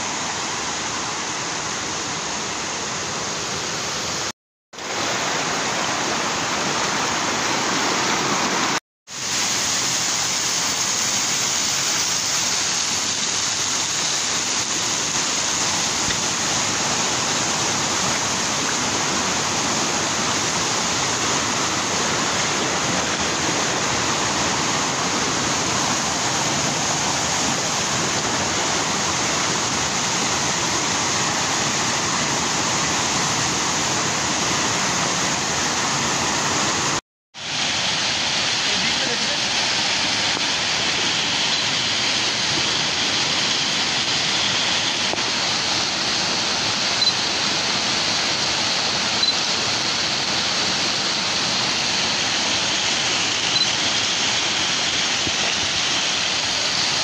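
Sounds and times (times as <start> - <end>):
stream tumbling over boulders: 0.0 - 57.0
waterfall rushing: 0.0 - 57.0.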